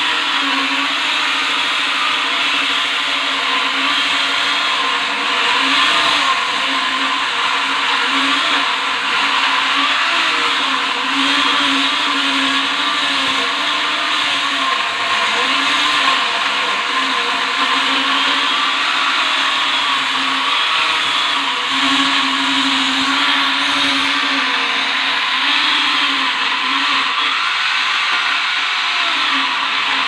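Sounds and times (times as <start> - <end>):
electric chainsaw motor whine: 0.0 - 30.0.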